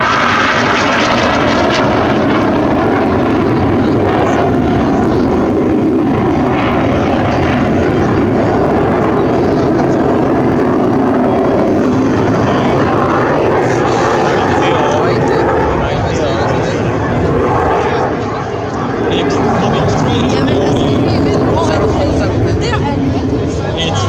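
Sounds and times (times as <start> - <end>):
jet engine noise: 0.0 - 24.0.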